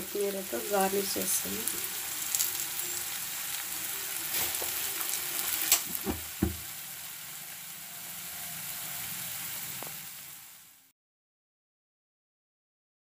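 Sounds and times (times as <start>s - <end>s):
curry sizzling in oil: 0.0s - 10.9s.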